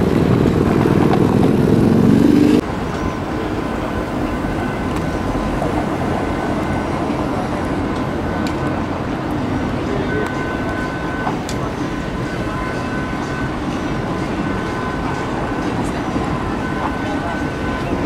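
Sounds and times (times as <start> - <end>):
city street traffic: 0.0 - 18.0
tram passing: 0.0 - 18.0.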